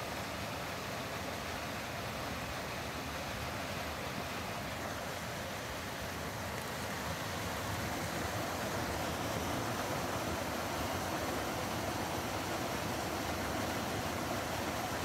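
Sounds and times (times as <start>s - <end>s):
creek water rushing over gravel: 0.0s - 15.0s.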